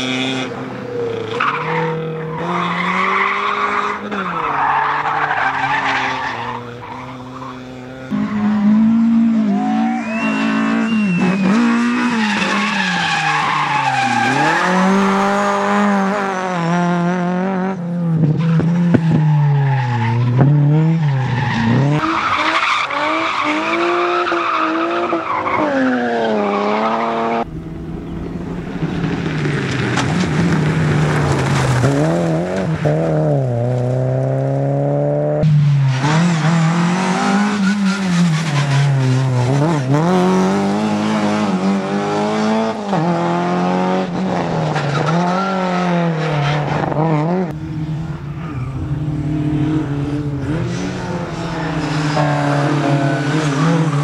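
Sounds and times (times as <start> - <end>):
tyres skidding: 0.0 - 17.1, 18.1 - 54.0
rally car engines revving: 0.0 - 54.0.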